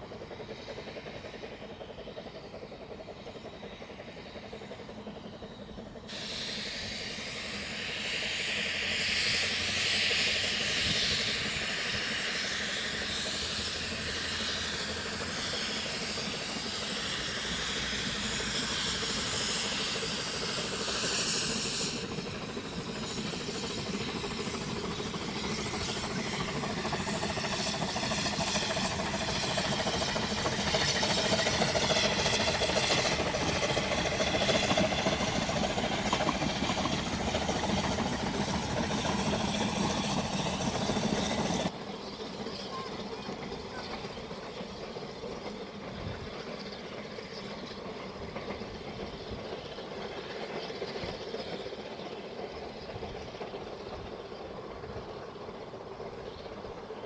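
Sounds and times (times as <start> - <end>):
steam train hiss: 0.0 - 57.0
train coaches rumbling past: 0.0 - 57.0.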